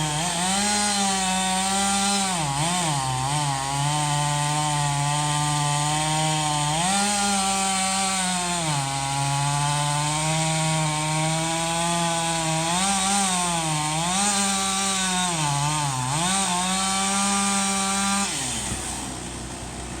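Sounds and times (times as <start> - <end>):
chainsaw cutting at high revs: 0.0 - 20.0.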